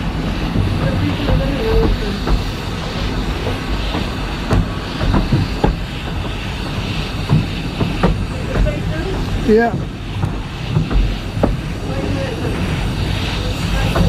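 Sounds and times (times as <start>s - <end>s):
train carriage rumbling: 0.0s - 14.0s.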